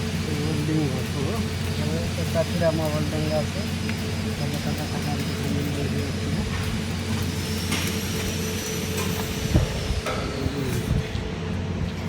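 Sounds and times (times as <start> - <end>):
low hum of workshop machinery: 0.0 - 12.0.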